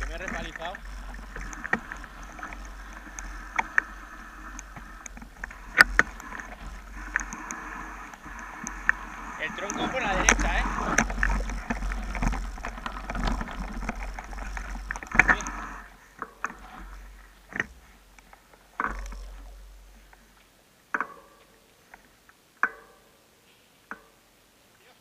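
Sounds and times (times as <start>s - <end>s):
bike rattling and knocking: 0.0s - 21.4s
bike tyres on dirt: 0.0s - 25.0s.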